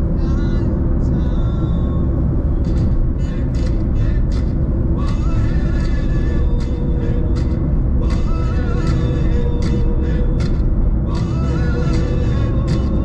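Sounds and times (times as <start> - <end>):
car road and engine rumble: 0.0 - 13.0
music playing: 0.0 - 13.0.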